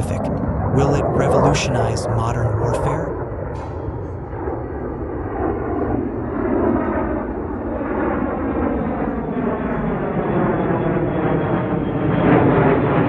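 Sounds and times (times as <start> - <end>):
jet aircraft engine rumble: 0.0 - 13.0.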